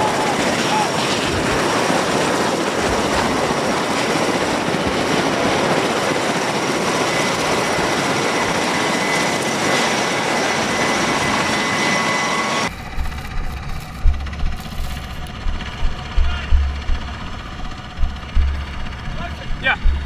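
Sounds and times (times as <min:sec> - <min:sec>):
wind buffeting microphone: 0:00.0 - 0:09.8, 0:12.7 - 0:20.0
helicopter engines and rotor roar: 0:00.0 - 0:20.0.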